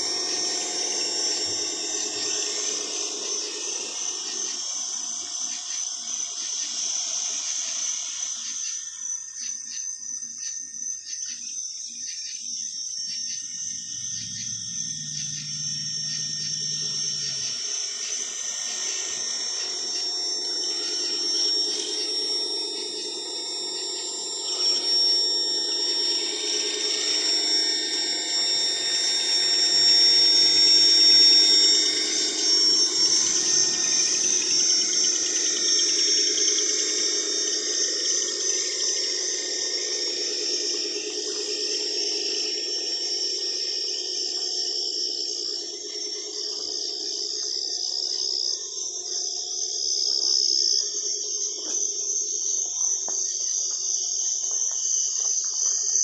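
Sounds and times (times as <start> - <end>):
insects chirping: 0.0 - 56.0
toy truck motor whirring: 0.0 - 56.0.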